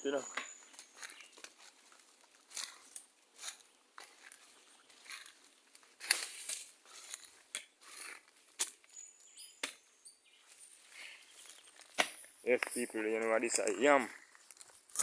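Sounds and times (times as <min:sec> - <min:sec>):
digging in soil: 0:00.1 - 0:15.0.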